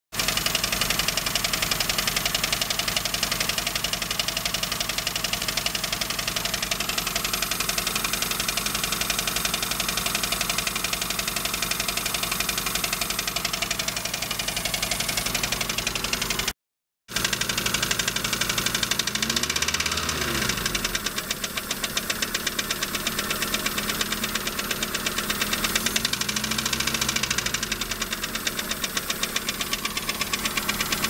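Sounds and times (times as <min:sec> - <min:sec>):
car engine with rackety ticking: 0:00.2 - 0:31.0.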